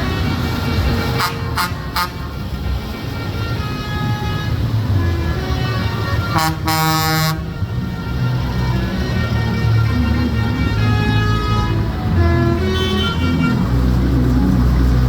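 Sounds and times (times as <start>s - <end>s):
vehicle horn blast: 0.0s - 2.4s, 3.0s - 13.8s
low rumble of passing engines: 0.0s - 15.0s.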